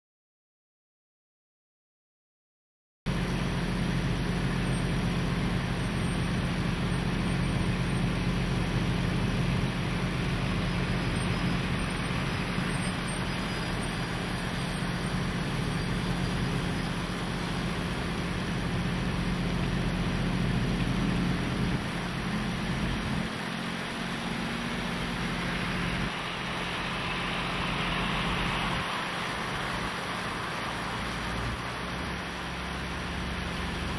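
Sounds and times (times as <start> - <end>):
fire truck engines rumbling: 3.1 - 33.9
road noise: 3.1 - 33.9.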